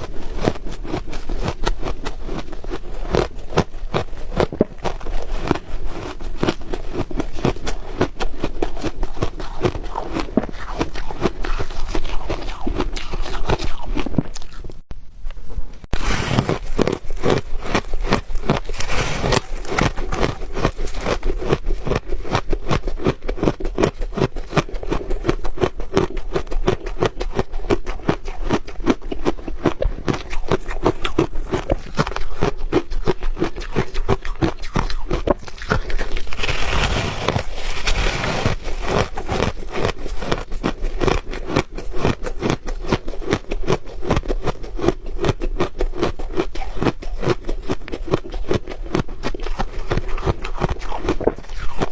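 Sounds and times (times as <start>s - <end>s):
ice being chewed: 0.0s - 14.9s, 16.0s - 51.9s.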